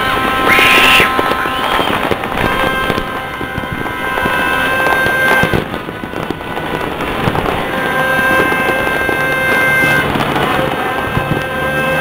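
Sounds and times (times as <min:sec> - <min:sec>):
fireworks crackling and banging: 0:00.0 - 0:12.0
steady held tones: 0:00.0 - 0:12.0.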